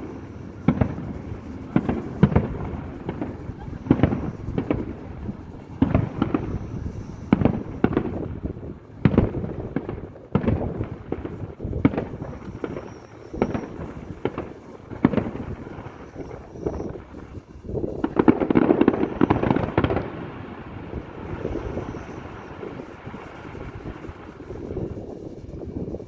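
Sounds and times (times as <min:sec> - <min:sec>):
faint high whistle: 0:00.0 - 0:08.3, 0:11.8 - 0:19.8, 0:20.8 - 0:26.0
fireworks shells bursting: 0:00.0 - 0:26.0.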